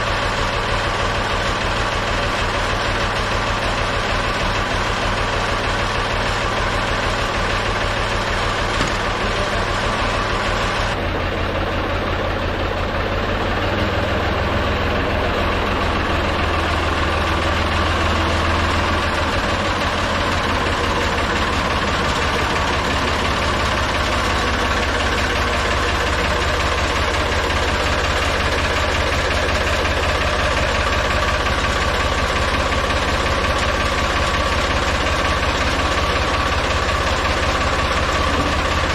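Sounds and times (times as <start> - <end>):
backhoe engine idling: 0.0 - 38.9.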